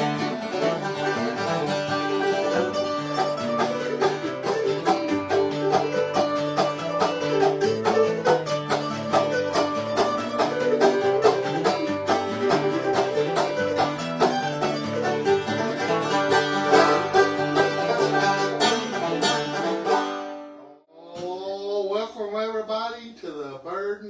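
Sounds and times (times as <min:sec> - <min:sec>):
guitar backing: 0:00.0 - 0:20.8
picked banjo: 0:00.0 - 0:21.3.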